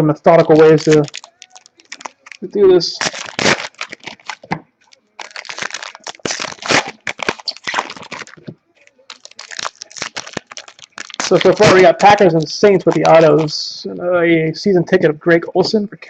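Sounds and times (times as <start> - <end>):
foil wrappers torn and crinkled: 0.5 - 13.5.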